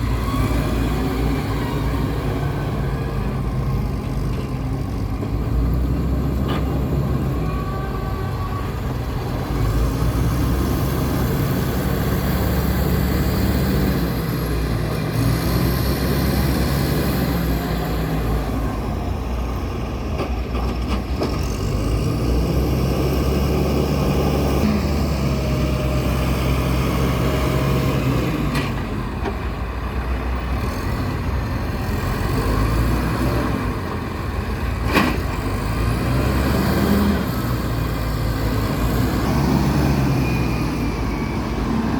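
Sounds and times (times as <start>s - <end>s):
diesel truck engine revving: 0.0s - 20.2s, 21.0s - 41.9s.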